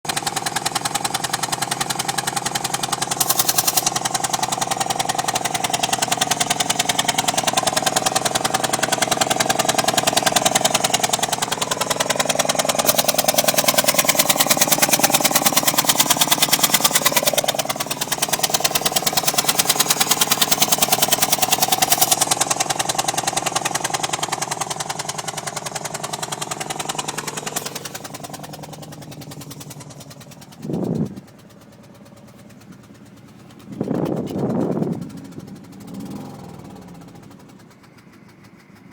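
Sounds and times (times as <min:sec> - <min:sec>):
car engine running: 0:00.0 - 0:38.9
rapid even engine ticking: 0:00.0 - 0:38.9
engine whine wandering in pitch: 0:00.1 - 0:38.9.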